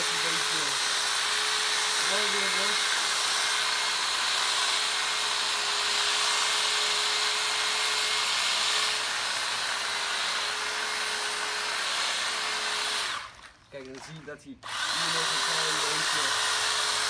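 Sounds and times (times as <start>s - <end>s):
electric hedge trimmer running: 0.0s - 13.6s, 14.6s - 17.0s.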